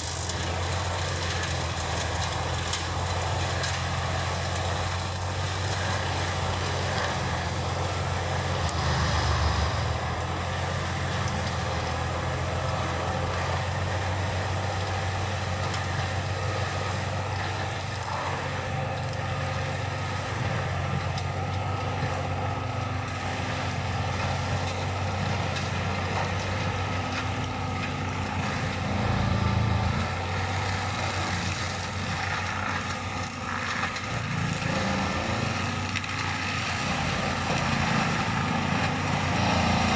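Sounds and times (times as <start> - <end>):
mulcher grinding woody debris: 0.0 - 39.9
tractor diesel engine hum: 0.0 - 39.9.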